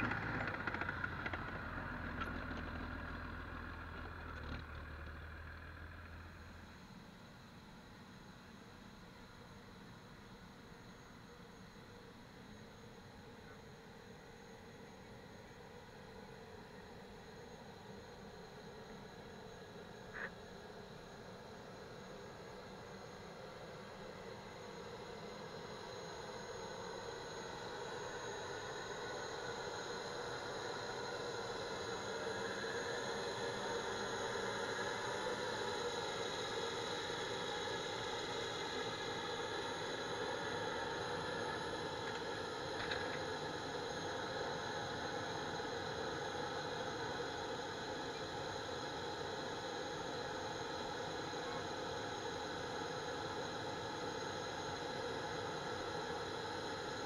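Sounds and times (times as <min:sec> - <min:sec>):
generator high whine: 0:00.0 - 0:57.0.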